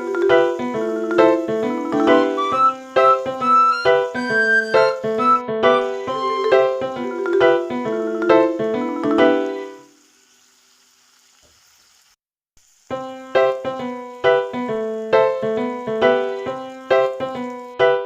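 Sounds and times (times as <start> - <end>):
piano music: 0.0 - 10.0, 12.9 - 18.0.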